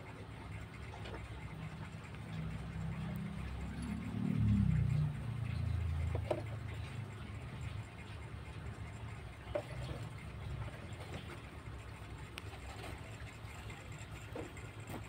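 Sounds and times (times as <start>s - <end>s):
kittens purring: 0.0s - 15.0s.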